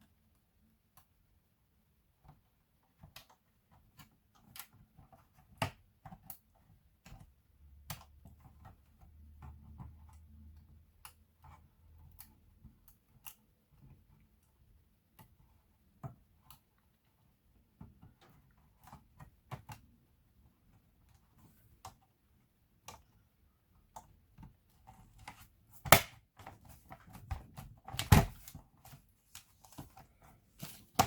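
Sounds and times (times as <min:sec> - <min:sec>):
laptop parts clicking and tapping: 0:02.2 - 0:17.1, 0:17.7 - 0:31.0.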